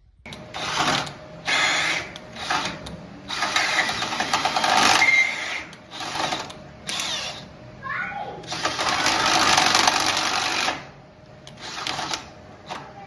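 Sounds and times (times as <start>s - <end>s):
power tool whirring: 0.3s - 7.6s, 8.4s - 13.0s.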